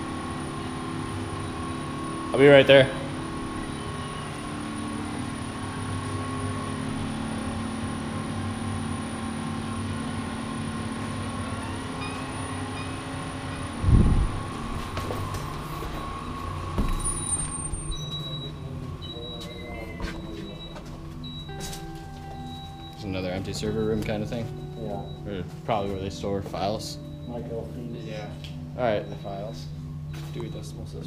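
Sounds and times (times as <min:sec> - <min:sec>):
ventilation machinery hum: 0:00.0 - 0:31.0.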